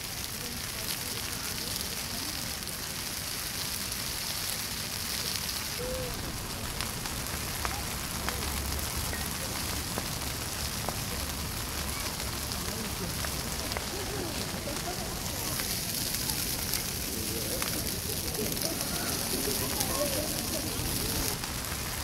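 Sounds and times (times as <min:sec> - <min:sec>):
bonfire hissing and crackling: 0:00.0 - 0:22.0
sharp fire pops: 0:00.0 - 0:22.0.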